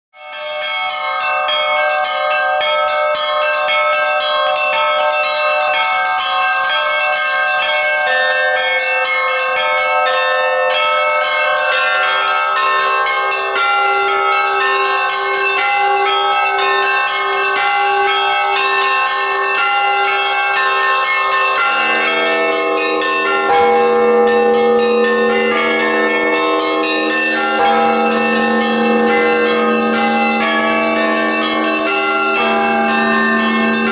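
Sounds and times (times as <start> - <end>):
deep church bell: 0.2 - 33.9
high church bells pealing: 0.2 - 33.9
low church bell: 0.2 - 33.9.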